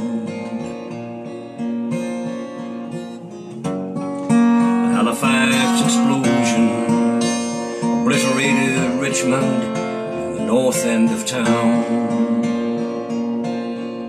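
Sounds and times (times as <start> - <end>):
acoustic guitar strummed with reverb: 0.0 - 14.0.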